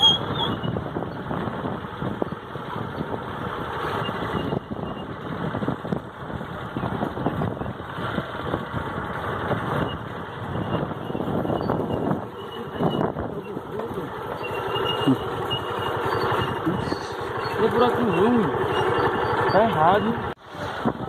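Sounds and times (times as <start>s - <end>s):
vehicle engine: 0.0s - 21.0s
wind: 0.0s - 21.0s.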